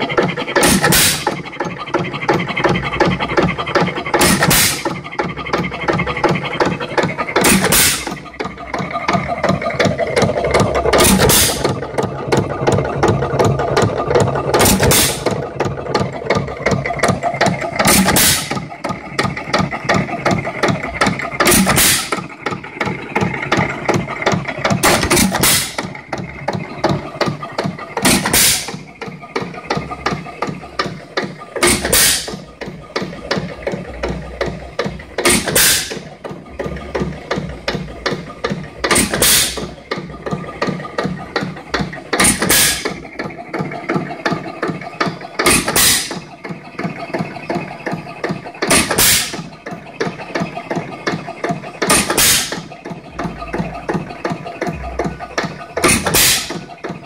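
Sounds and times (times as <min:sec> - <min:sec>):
engine firing bangs: 0:00.0 - 0:57.0
fast light clicking of engine parts: 0:00.0 - 0:57.0.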